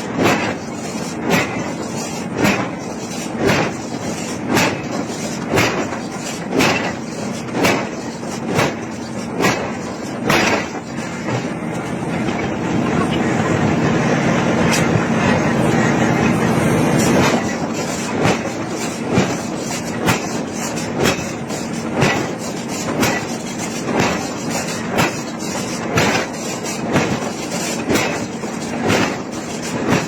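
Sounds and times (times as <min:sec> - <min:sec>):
steady mechanical noise: 0:00.0 - 0:30.0.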